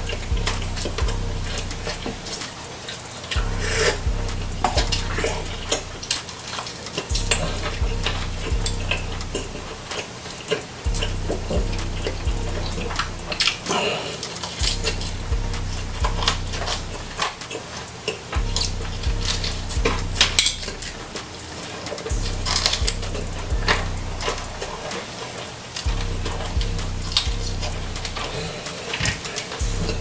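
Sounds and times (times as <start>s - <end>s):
wet chewing: 0.0s - 30.0s.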